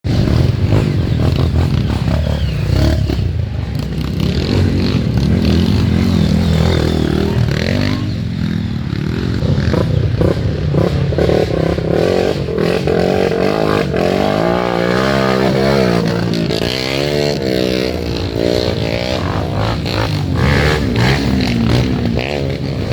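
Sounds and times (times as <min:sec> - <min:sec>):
motorcycle engines revving: 0:00.0 - 0:22.9.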